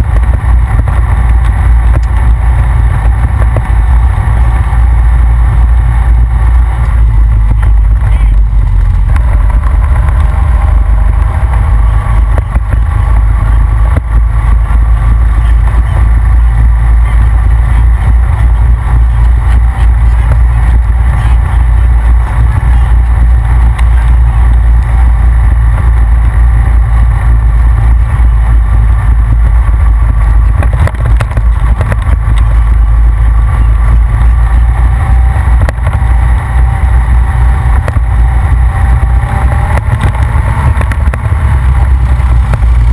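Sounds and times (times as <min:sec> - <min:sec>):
atv engine rumble: 0:00.0 - 0:42.9
faint steady whine: 0:00.0 - 0:42.9.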